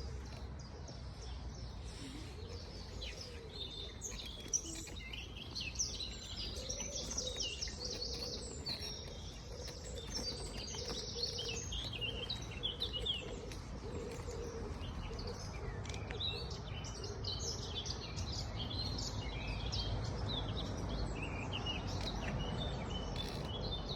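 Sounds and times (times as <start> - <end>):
songbirds chirping and singing: 0.0 - 23.9.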